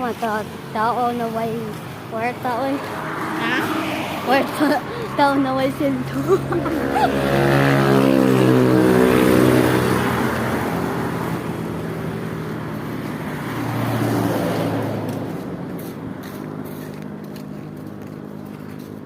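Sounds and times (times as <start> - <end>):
vehicles driving past: 0.0 - 19.0.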